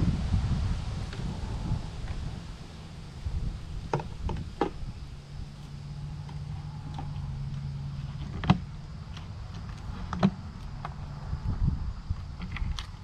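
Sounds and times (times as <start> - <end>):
low rumble: 0.0 - 13.0
steady low hum: 0.0 - 13.0.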